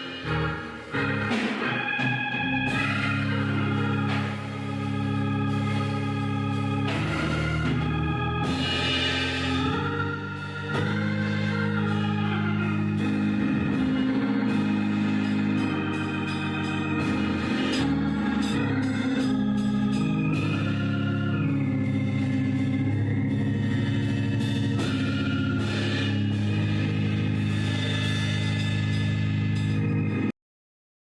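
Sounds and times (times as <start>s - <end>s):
organ playing sustained chords: 0.0s - 30.3s.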